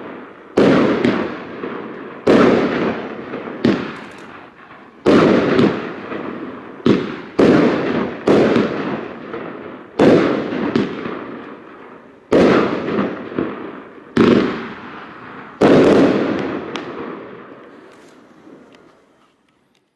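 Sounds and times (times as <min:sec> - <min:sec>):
fireworks bangs with crackle: 0:00.0 - 0:19.2.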